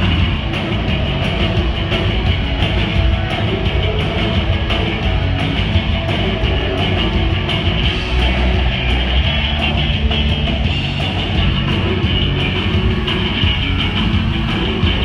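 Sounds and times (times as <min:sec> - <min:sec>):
drum kit: 0:00.0 - 0:15.0
electric guitars: 0:00.0 - 0:15.0.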